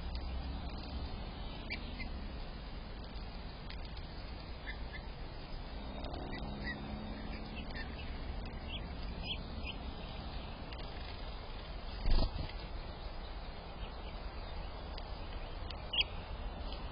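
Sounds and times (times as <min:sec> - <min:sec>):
small bird chirping: 0:00.0 - 0:02.3, 0:03.0 - 0:16.4
low background rumble: 0:00.0 - 0:16.9.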